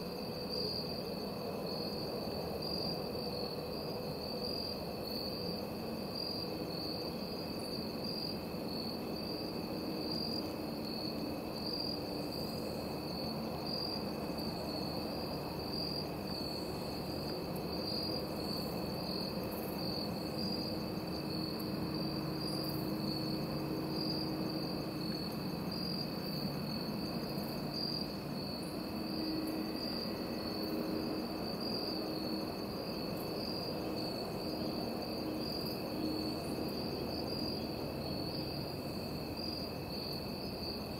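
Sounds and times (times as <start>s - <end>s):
crickets trilling: 0.0s - 40.9s
steady high insect note: 0.0s - 40.9s.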